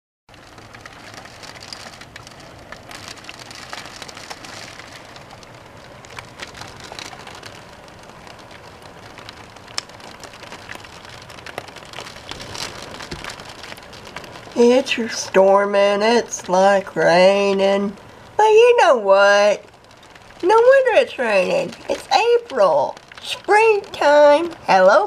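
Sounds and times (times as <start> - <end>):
rain falling: 0.3 - 25.0
raindrops ticking: 0.3 - 25.0.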